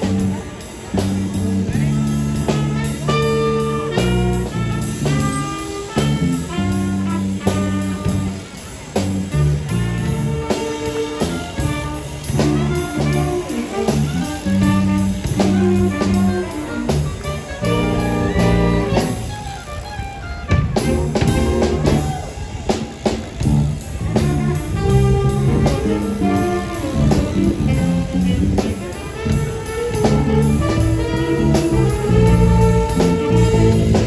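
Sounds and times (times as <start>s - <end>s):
drums: 0.0s - 34.0s
jazz horns melody: 0.0s - 34.0s.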